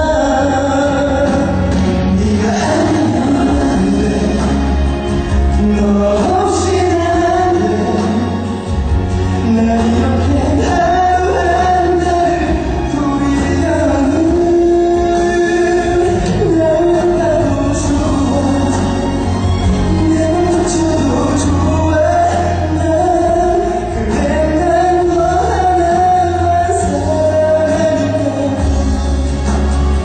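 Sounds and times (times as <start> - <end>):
backing track: 0.0 - 30.0
man singing a slow ballad: 0.0 - 30.0.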